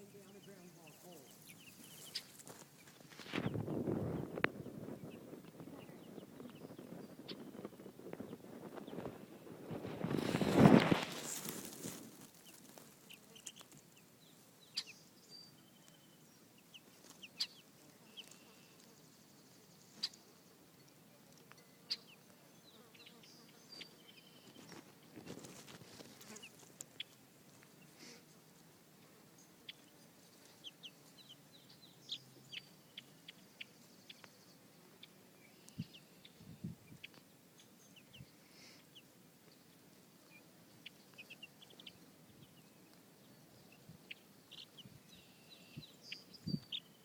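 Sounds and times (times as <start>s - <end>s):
baby chicks peeping: 0.0s - 28.4s, 29.4s - 47.0s.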